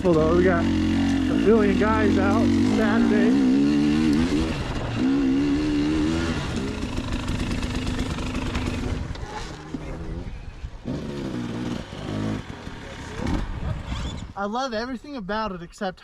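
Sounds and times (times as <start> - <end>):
two-stroke dirt bike engine revving: 0.0 - 14.2.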